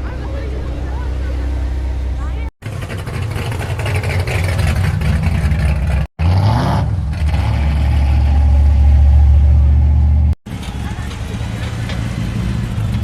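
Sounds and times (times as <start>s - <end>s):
engine rumbling and revving: 0.0s - 13.0s.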